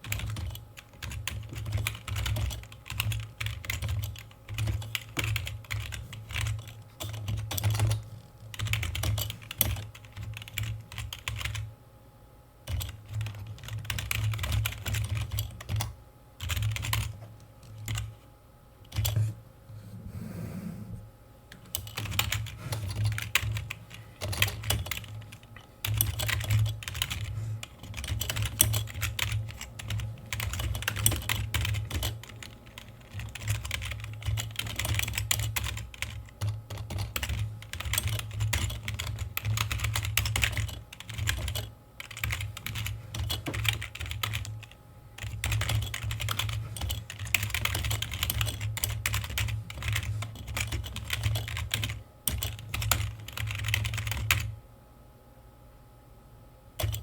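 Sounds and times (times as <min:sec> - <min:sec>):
computer keyboard typing: 0:00.0 - 0:11.7, 0:12.7 - 0:18.2, 0:18.9 - 0:19.2, 0:21.5 - 0:54.5, 0:56.8 - 0:57.0.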